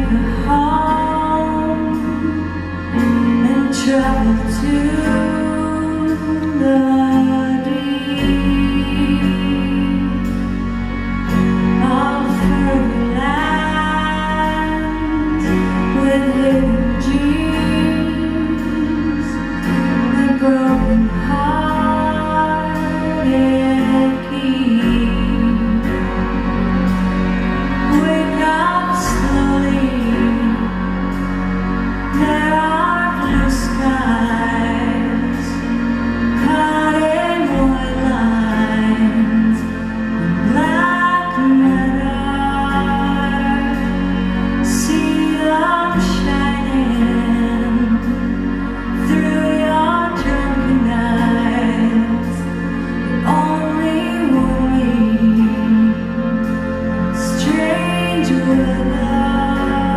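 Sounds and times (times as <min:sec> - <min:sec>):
woman singing: 0:00.0 - 0:10.7, 0:11.3 - 0:26.5, 0:27.9 - 0:31.3, 0:32.0 - 0:59.9
band playing slow song: 0:00.0 - 0:59.9
deep bass notes: 0:00.0 - 0:59.9.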